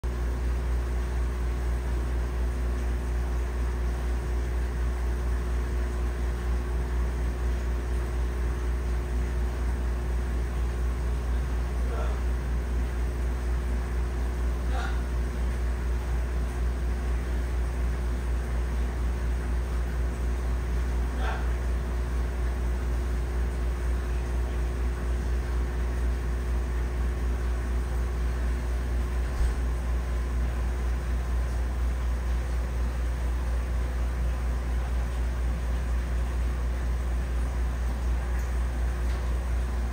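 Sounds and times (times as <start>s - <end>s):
aquarium air pump humming: 0.0s - 39.9s.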